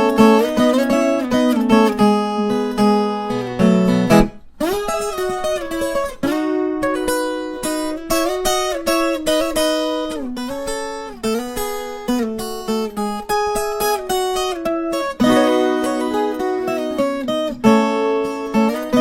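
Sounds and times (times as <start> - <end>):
steel-strung guitar plucked notes: 0.0 - 19.0.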